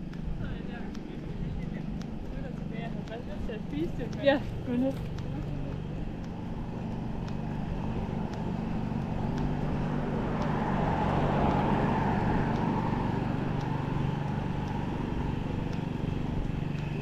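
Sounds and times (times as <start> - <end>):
car passing: 0.0 - 17.0
faint sharp ticks: 0.0 - 17.0.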